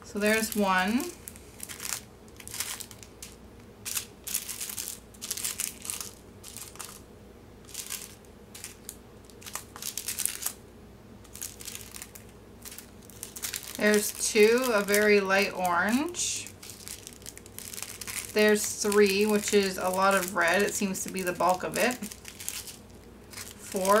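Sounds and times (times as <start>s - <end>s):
plastic bags crinkling: 0.2s - 7.0s, 7.6s - 10.6s, 11.2s - 24.0s.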